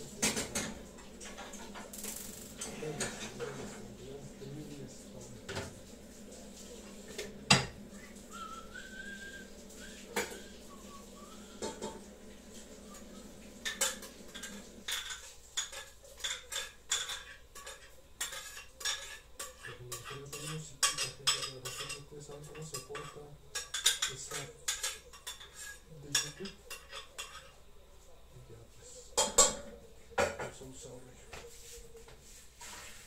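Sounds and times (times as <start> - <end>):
metal utensils clinking on pots: 0.0 - 5.9, 6.5 - 27.7, 29.0 - 31.5.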